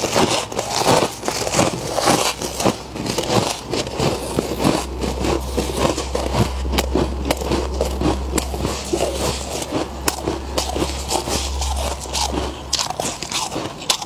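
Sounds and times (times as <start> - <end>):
chewing: 0.0 - 14.0
frost crunching and crackling: 0.0 - 14.0
steady low hum: 0.0 - 14.0.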